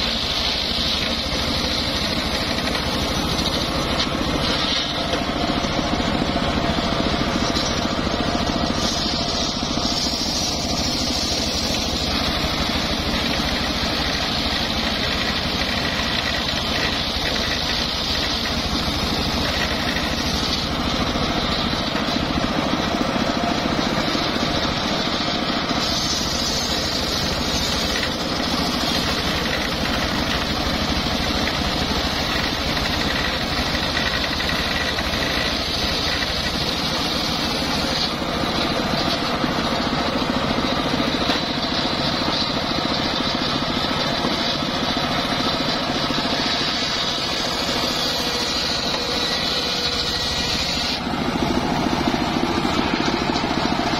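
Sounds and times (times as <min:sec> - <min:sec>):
engine rumbling: 0:00.0 - 0:53.9
saw blade whining through log: 0:00.0 - 0:53.9.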